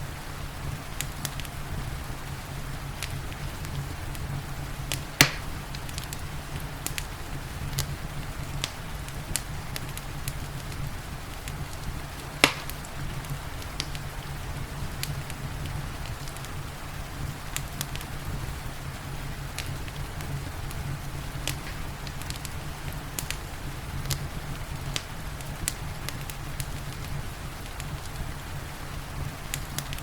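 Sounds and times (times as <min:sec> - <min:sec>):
low fire rumble: 0:00.0 - 0:30.0
wood fire crackling: 0:00.0 - 0:30.0
loud fire pops: 0:02.9 - 0:30.0.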